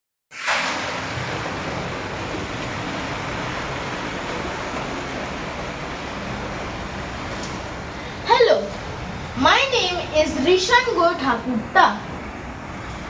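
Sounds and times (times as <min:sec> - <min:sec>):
steady rain falling: 0:00.4 - 0:13.0.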